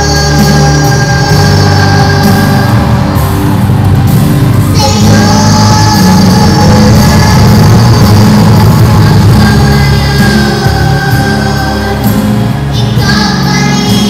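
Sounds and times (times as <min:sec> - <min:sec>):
children singing into microphones: 0:00.0 - 0:14.0
loud backing track: 0:00.0 - 0:14.0.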